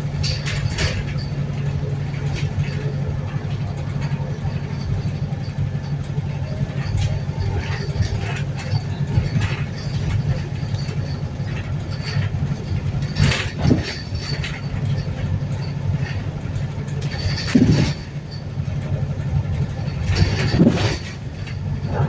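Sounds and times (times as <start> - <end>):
bus engine droning: 0.0 - 22.0
knocks and rattles: 0.0 - 22.0.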